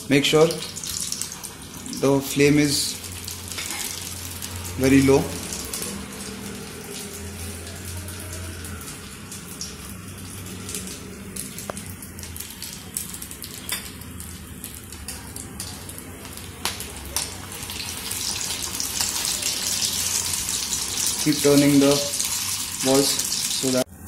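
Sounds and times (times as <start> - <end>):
deep-frying sizzle and bubbling: 0.0 - 24.0
oil popping and crackling: 0.4 - 23.9.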